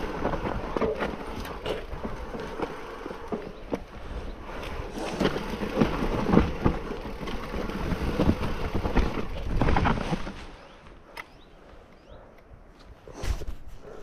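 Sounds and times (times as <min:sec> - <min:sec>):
bike knocks and rattles: 0:00.0 - 0:11.4
bike tyres crunching over gravel: 0:00.0 - 0:11.5.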